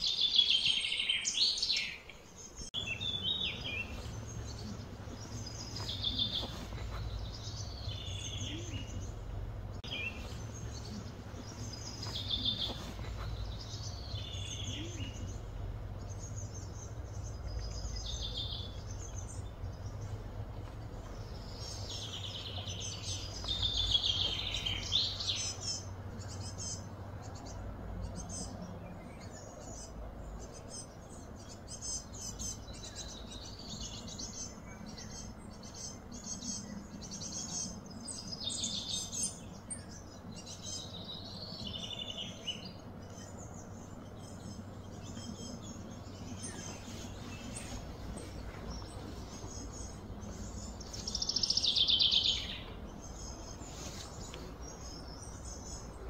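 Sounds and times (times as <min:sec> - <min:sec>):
birds singing: 0:00.0 - 0:56.0
low background hum: 0:00.0 - 0:56.0.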